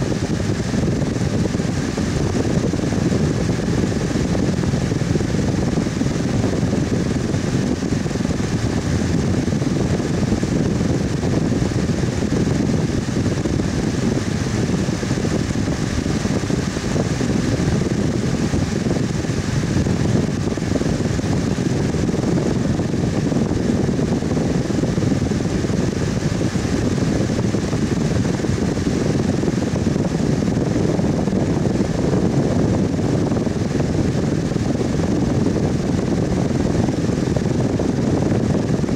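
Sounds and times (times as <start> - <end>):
fan running: 0.0 - 38.9.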